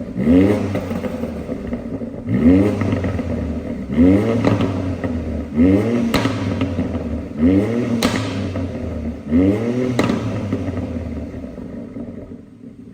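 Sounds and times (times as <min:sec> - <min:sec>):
car engine revving: 0:00.0 - 0:12.9
exhaust cracks: 0:00.0 - 0:12.9.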